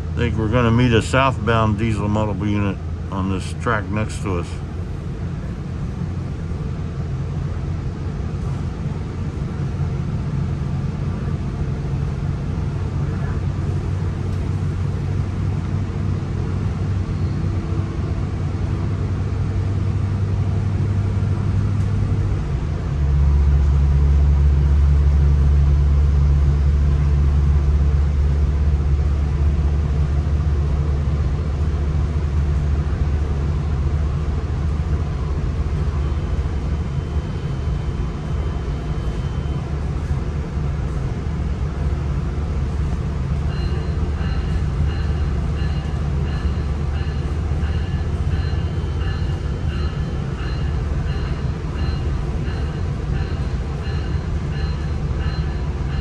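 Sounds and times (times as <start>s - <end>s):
diesel engine drone: 0.0s - 56.0s
wheel and rail noise: 0.0s - 56.0s.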